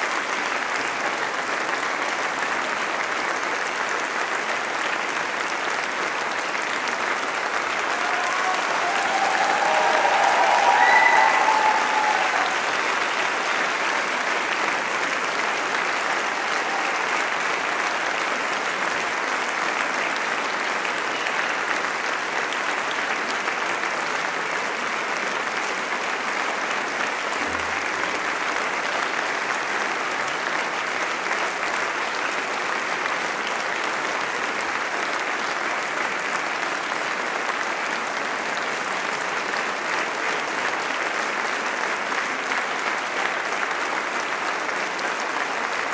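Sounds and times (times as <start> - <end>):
audience applause: 0.0 - 45.9.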